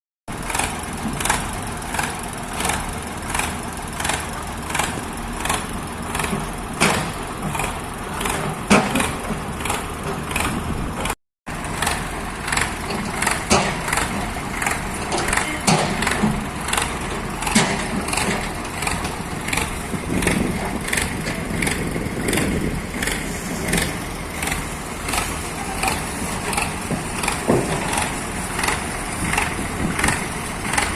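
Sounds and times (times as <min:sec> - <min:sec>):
piling rig engine running: 0:00.3 - 0:30.9
regular pile driving knocks: 0:00.3 - 0:30.9.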